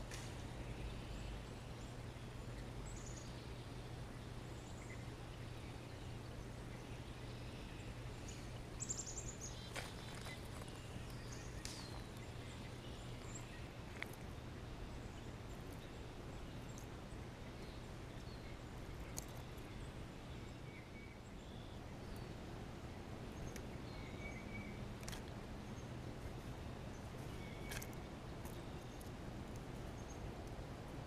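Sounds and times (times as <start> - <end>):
outdoor background hum: 0.0 - 31.0.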